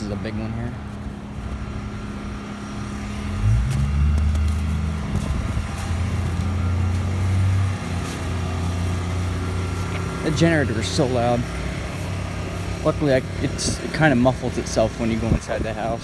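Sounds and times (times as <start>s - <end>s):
generator engine droning: 0.0s - 16.0s.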